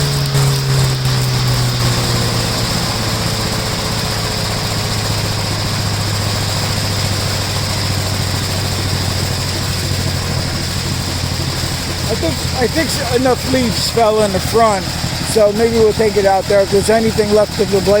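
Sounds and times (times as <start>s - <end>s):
small tractor engine running: 0.0s - 18.0s.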